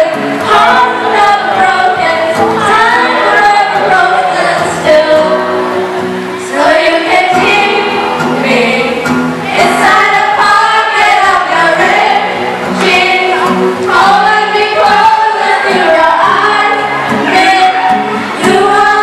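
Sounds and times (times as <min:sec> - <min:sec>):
girl singing into a microphone: 0:00.0 - 0:19.0
group of young voices singing: 0:00.0 - 0:19.0.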